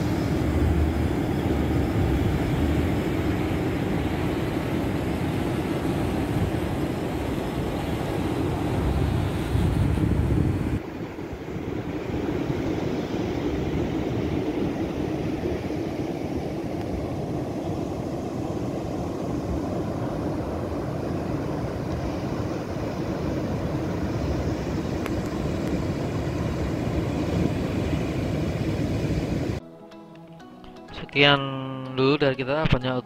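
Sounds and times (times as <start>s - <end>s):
ocean surf breaking: 0.0s - 29.6s
wind on microphone: 0.0s - 29.6s.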